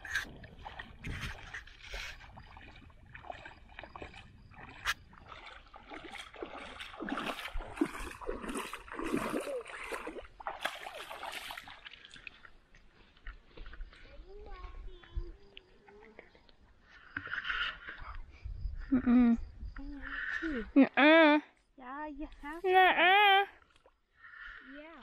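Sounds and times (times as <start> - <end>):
water splashing and sloshing: 0.0 - 18.8, 21.8 - 25.0.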